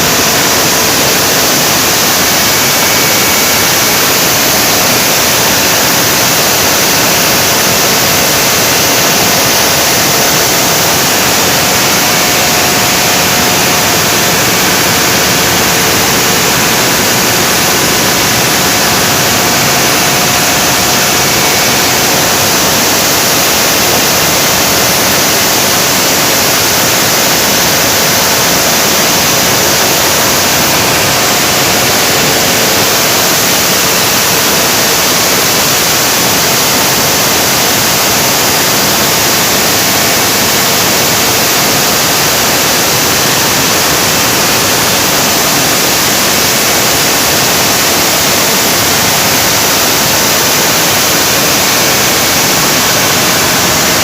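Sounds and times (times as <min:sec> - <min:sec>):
generator running: 0:00.0 - 0:54.0.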